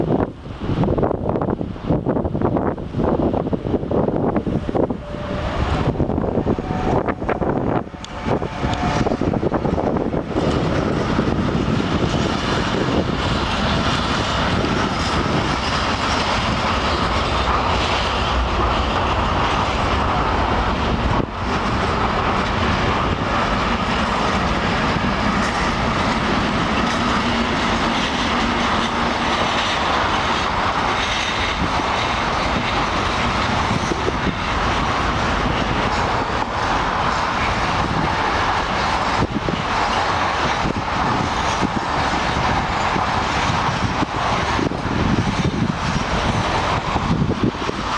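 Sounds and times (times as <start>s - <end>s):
train wheels rumbling on rail: 0.0s - 47.9s
clatter over rail joints: 6.9s - 47.9s.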